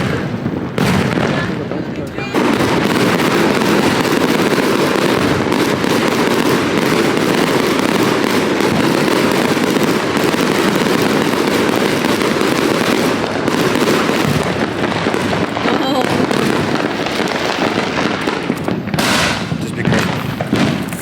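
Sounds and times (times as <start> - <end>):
fireworks crackling: 0.0 - 21.0.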